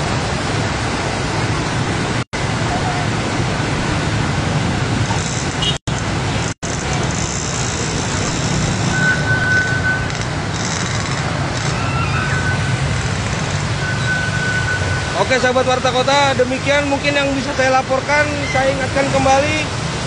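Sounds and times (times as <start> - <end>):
engines: 0.0 - 20.0.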